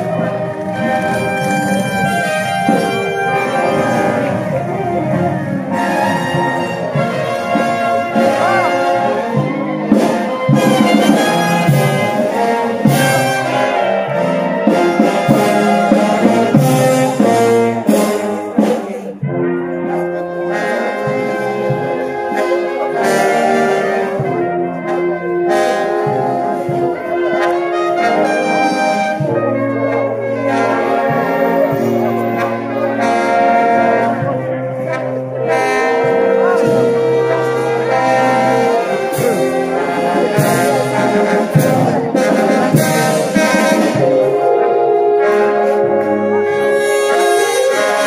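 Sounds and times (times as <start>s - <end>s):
brass band playing a march: 0.0s - 48.0s
percussion strikes: 0.0s - 48.0s.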